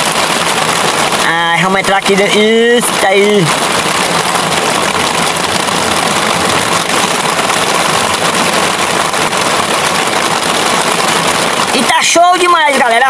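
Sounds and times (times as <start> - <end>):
rain on canvas tent roof: 0.0 - 13.0.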